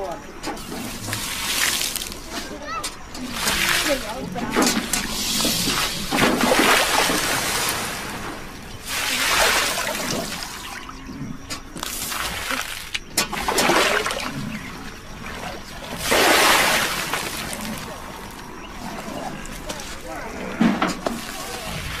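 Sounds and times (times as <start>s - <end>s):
water sloshing and trickling: 0.0s - 22.0s.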